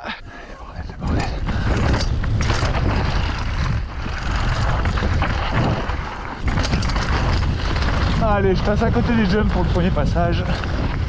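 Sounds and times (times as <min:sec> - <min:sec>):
wind rushing over microphone: 0:00.4 - 0:11.0
bike clattering over bumps: 0:01.0 - 0:11.0
tyres crunching on dirt: 0:01.2 - 0:11.0.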